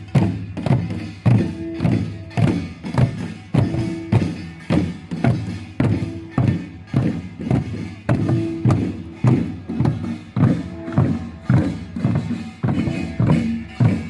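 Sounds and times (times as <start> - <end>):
drum strokes: 0.0 - 14.0
gongs clanging: 0.0 - 14.0.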